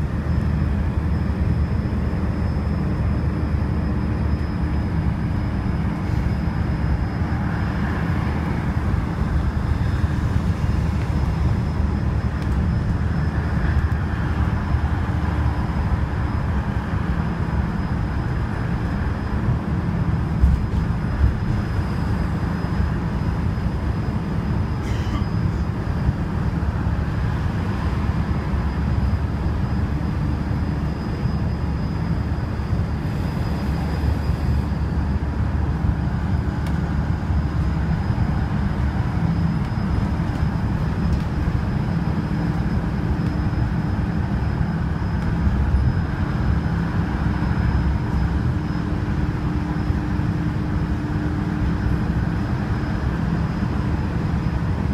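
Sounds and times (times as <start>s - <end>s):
bus engine and tyre drone: 0.0s - 54.9s
faint high whine: 0.0s - 54.9s.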